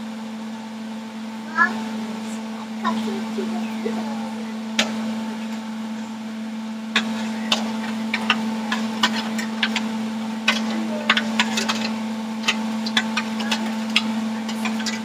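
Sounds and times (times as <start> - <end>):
blender motor humming: 1.6 - 15.0.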